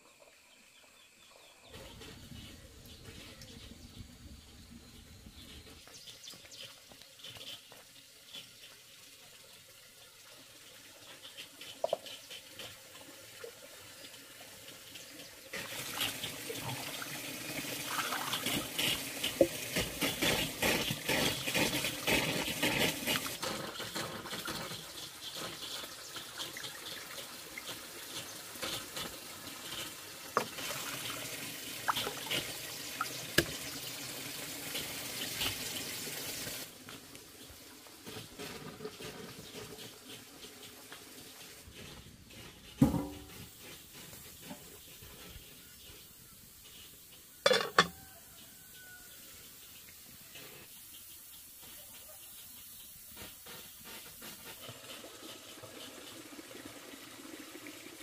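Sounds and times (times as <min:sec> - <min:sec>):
water running and splashing: 0:05.4 - 0:58.0.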